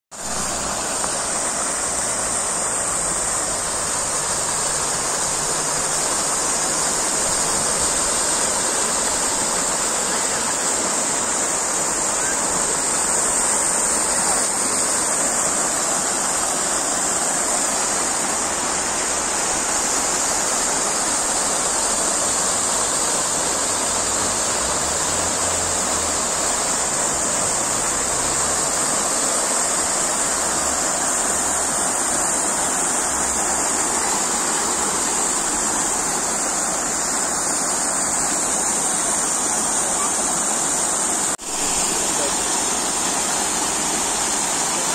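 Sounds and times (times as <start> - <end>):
fountain water splashing: 0.1 - 44.9.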